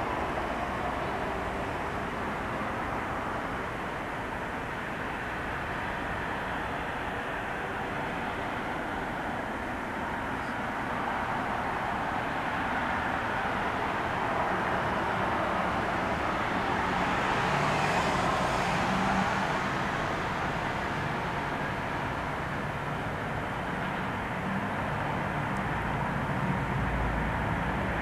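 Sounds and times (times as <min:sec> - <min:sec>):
distant vehicle engines rumbling: 0:00.0 - 0:28.0.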